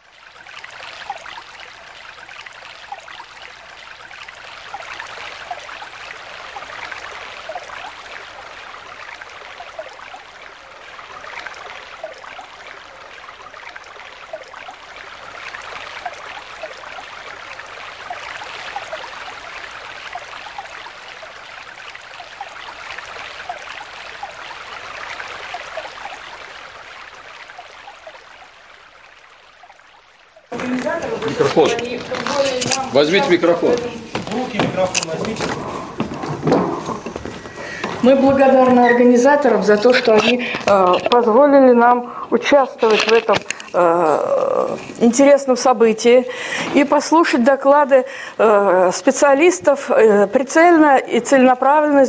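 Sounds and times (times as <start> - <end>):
brook trickling and burbling: 0.0 - 52.0.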